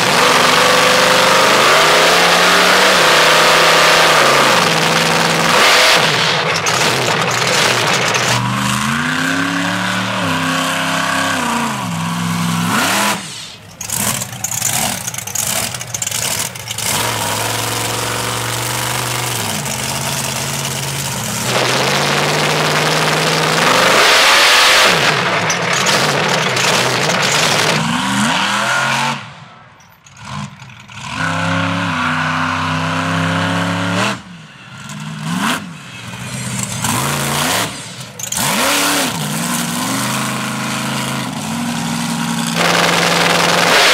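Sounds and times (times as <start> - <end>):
monster truck engine revving: 0.0 - 43.9.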